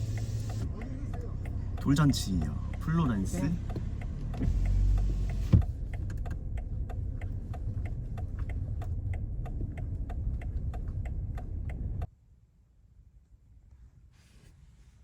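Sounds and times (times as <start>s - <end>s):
car engine humming: 0.0s - 12.1s
turn signal ticking: 0.0s - 12.1s.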